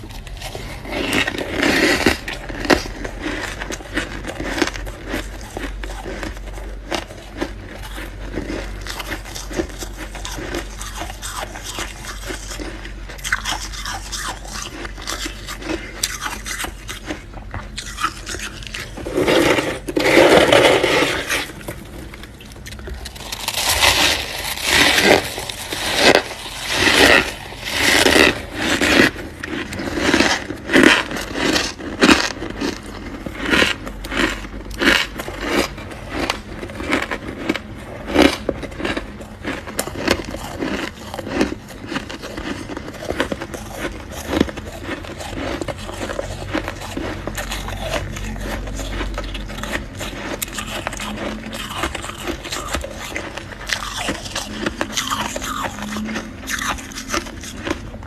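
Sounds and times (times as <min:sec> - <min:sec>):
freezer frost scraping: 0:00.0 - 0:58.0
frost crunching: 0:00.0 - 0:58.0.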